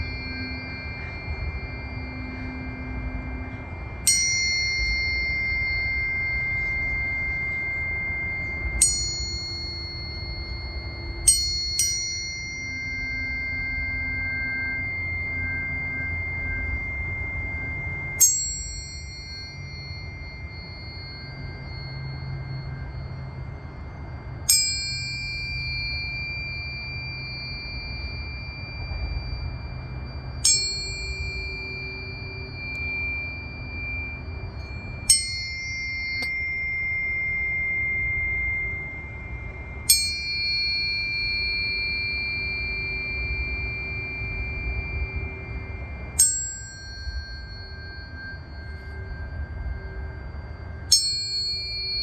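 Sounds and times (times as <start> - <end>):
tuning fork ringing: 0.0 - 52.0.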